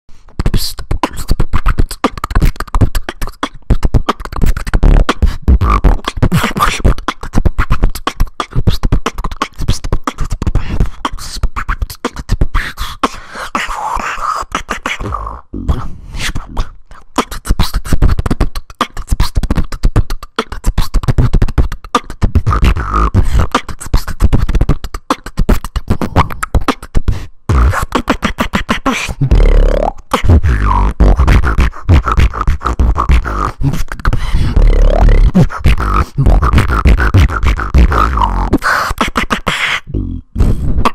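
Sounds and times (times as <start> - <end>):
beatboxing: 0.2 - 40.9.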